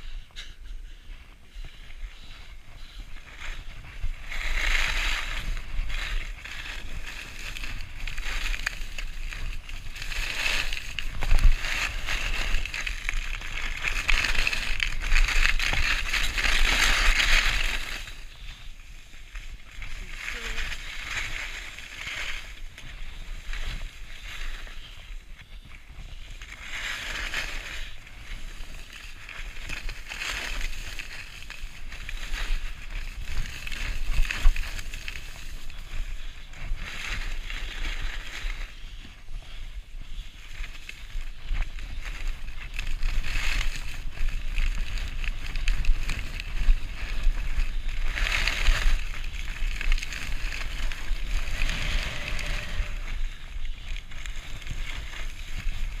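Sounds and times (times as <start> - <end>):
skis scraping over packed snow: 0.0 - 56.0
wind buffeting camera: 0.0 - 56.0.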